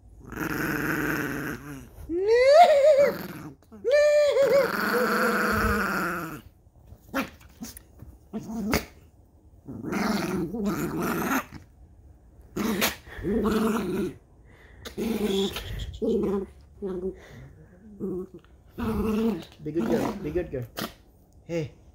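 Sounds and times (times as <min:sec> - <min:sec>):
small dog growling: 0:00.1 - 0:06.5, 0:07.1 - 0:11.7, 0:12.5 - 0:21.0.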